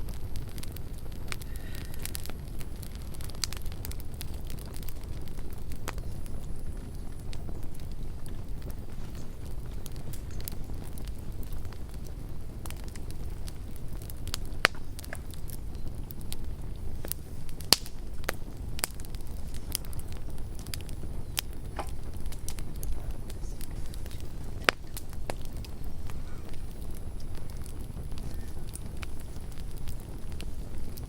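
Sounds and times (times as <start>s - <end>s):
campfire low rumble: 0.0s - 31.0s
wood crackling and popping: 0.0s - 31.0s.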